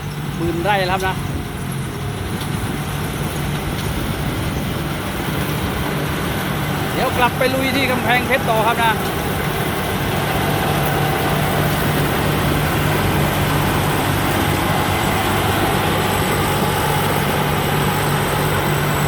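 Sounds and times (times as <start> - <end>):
diesel engine droning: 0.0 - 19.0
harvesting machinery noise: 0.0 - 19.0.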